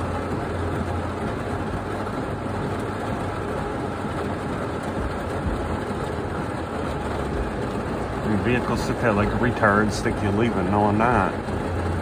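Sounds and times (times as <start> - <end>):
heavy rain on vehicle roof: 0.0 - 12.0.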